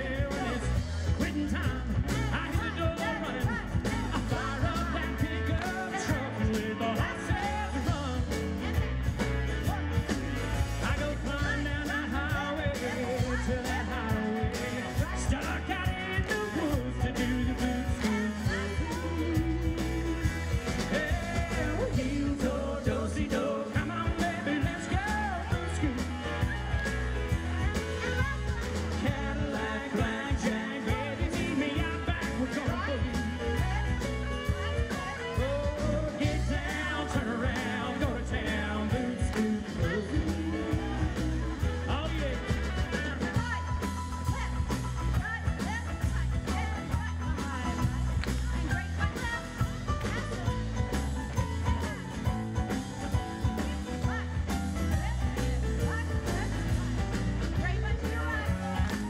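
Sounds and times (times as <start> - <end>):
lead singer: 0.0 - 59.0
live rock band: 0.0 - 59.0.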